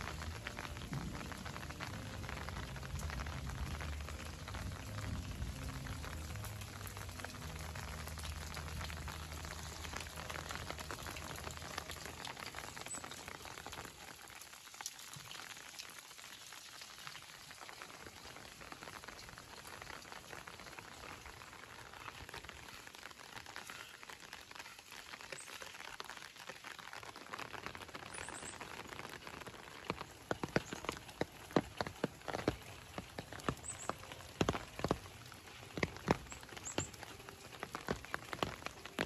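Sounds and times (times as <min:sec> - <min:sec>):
light rain dripping on leaves: 0:00.0 - 0:39.0.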